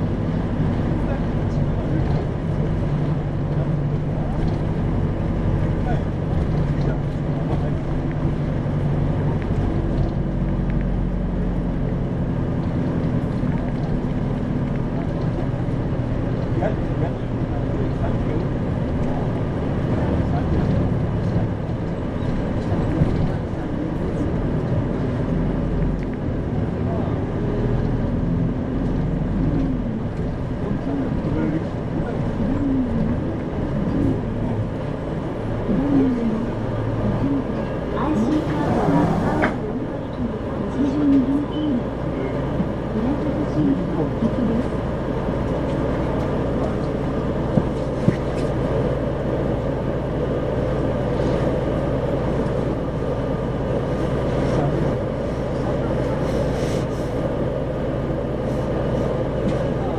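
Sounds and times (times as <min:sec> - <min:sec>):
bus diesel engine droning: 0:00.0 - 0:59.9
road noise: 0:00.0 - 0:59.9.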